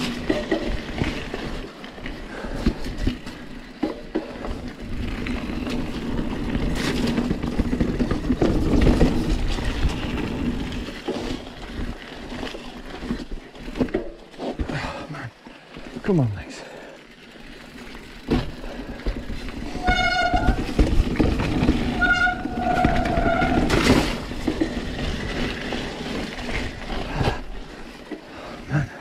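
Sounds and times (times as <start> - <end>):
bike rattling: 0.0 - 29.0
bike tyres rumbling on dirt: 0.0 - 29.0.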